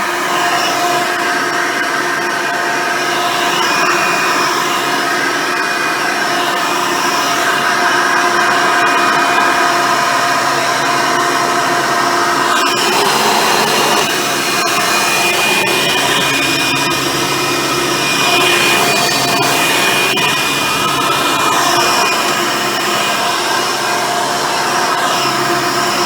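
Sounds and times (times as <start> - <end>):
vacuum cleaner motor whining: 0.0 - 26.0.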